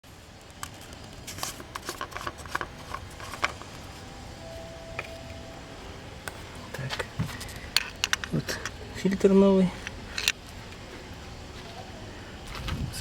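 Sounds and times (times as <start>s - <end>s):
handling clicks and rustles: 0.4s - 5.5s, 6.3s - 12.8s.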